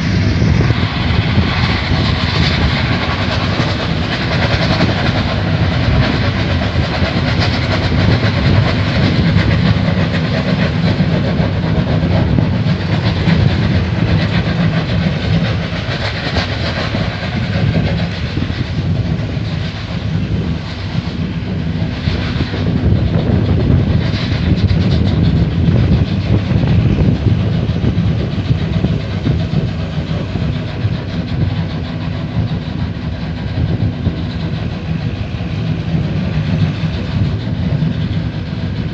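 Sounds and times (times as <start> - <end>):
gas well roaring: 0.0 - 38.9.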